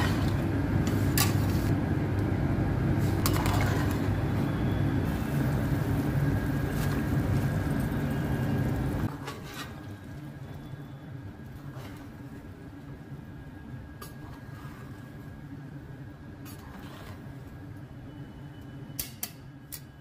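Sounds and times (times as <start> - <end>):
pot boiling and bubbling: 0.0 - 20.0.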